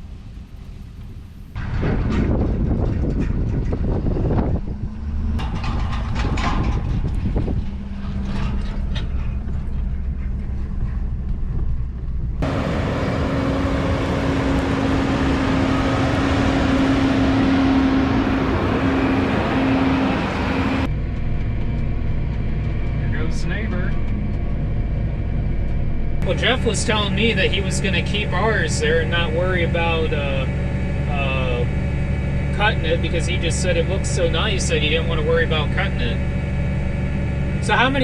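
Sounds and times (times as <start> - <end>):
low engine drone: 0.0 - 38.0.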